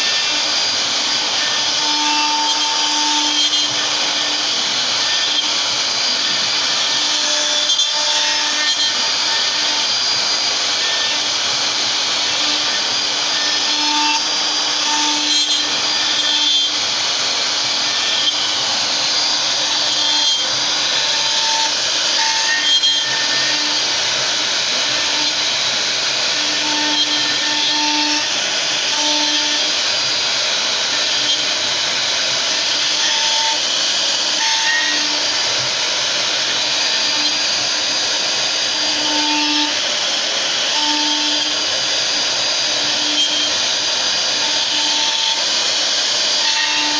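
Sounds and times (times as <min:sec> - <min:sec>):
router machining wood: 0:00.0 - 0:46.9.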